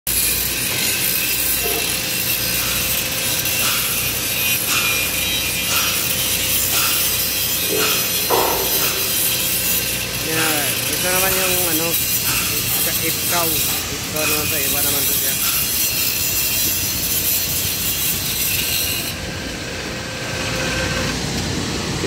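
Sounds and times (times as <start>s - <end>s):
welding arc sizzling: 0.1s - 21.5s.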